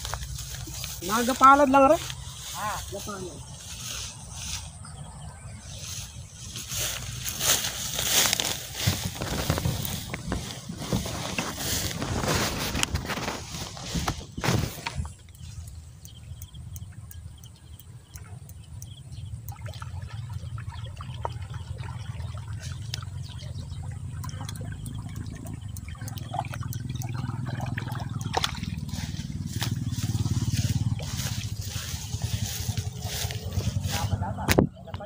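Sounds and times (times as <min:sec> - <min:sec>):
steady low rumble: 0:00.0 - 0:35.0
water trickling and splashing: 0:00.0 - 0:35.0.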